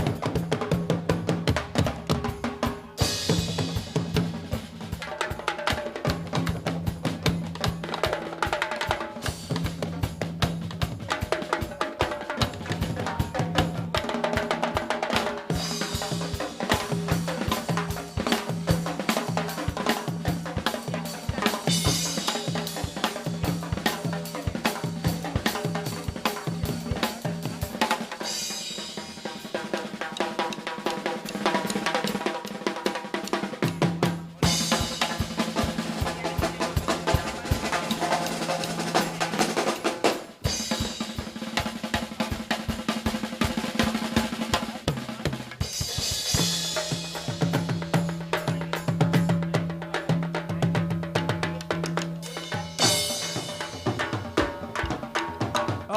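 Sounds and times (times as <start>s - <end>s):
fast drum kit playing: 0.0s - 55.9s.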